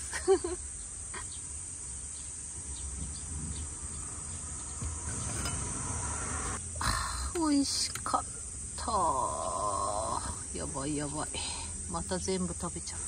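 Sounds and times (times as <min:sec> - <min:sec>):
insects trilling: 0:00.0 - 0:13.0
road traffic rumble: 0:01.0 - 0:13.0.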